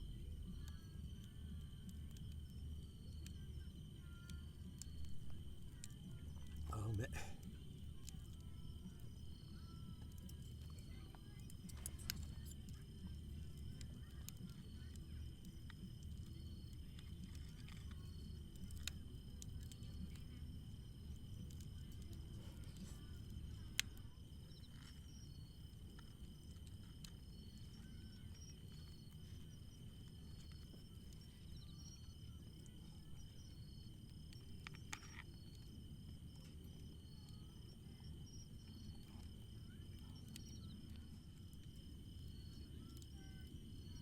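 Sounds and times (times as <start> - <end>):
insect chirps: 0.0 - 44.0
insects trilling: 0.0 - 44.0.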